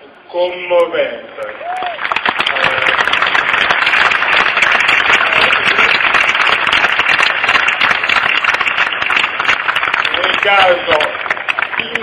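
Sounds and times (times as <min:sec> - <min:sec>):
large crowd applauding: 0:01.4 - 0:12.0.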